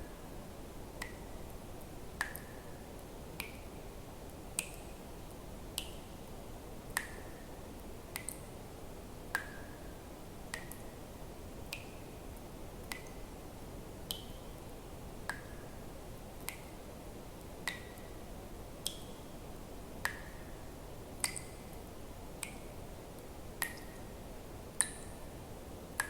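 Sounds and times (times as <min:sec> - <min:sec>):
steady soft hiss: 0:00.0 - 0:26.0.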